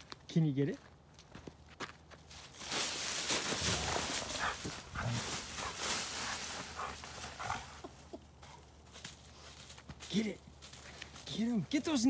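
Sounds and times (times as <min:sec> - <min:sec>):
dry leaves rustling and crunching: 0:01.9 - 0:12.0.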